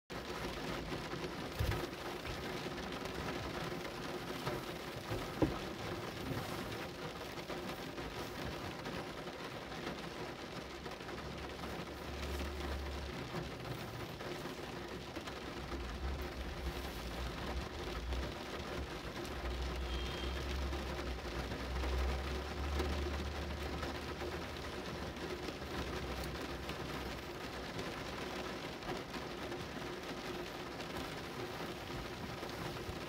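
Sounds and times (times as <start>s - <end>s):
rain pattering: 0.1s - 33.0s.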